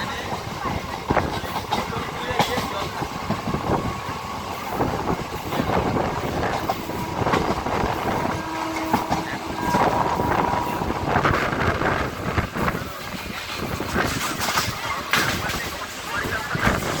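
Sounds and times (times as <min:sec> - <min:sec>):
train running rumble: 0:00.0 - 0:17.0
train wheels clattering over rails: 0:00.0 - 0:17.0.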